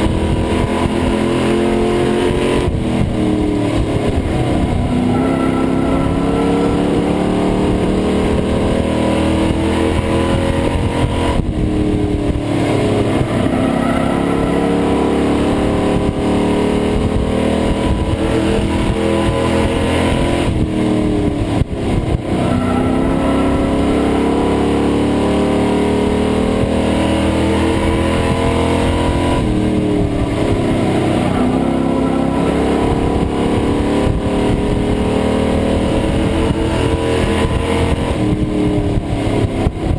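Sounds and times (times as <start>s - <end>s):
racing truck engine: 0.0s - 39.9s.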